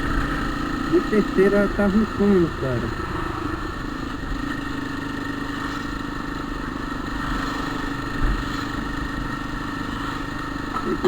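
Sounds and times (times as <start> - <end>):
motorcycle engine and gearbox growl: 0.0 - 11.0.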